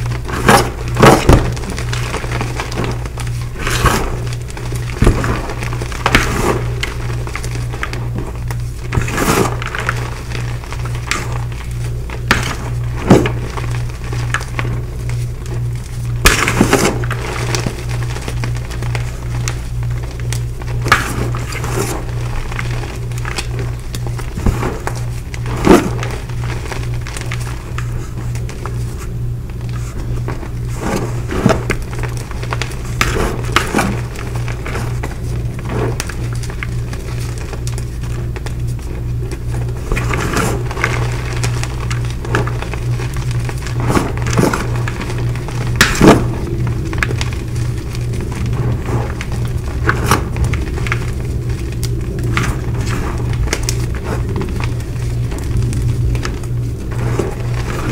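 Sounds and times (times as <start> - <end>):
hands crunching chalk blocks: 0.0 - 57.9
steady low hum: 0.0 - 57.9.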